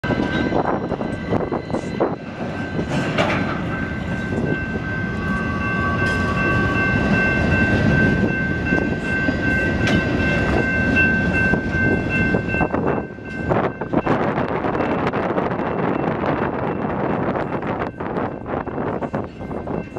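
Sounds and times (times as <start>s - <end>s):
freight train cars rolling: 0.0s - 19.9s.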